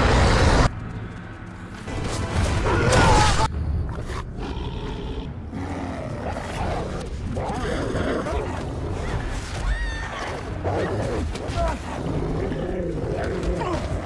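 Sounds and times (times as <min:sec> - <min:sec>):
film score music: 0:00.0 - 0:14.0.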